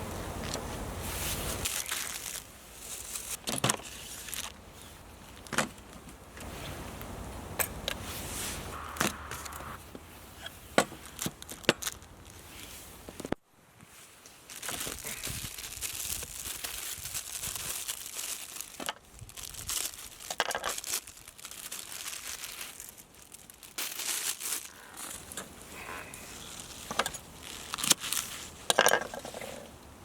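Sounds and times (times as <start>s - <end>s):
crinkling and rustling: 0.4s - 7.1s, 10.4s - 29.9s.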